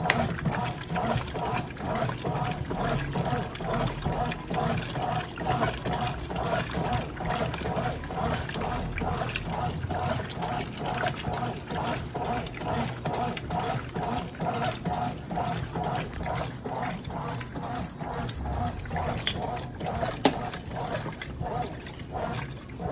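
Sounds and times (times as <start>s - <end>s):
washing machine water sloshing: 0.0s - 22.9s.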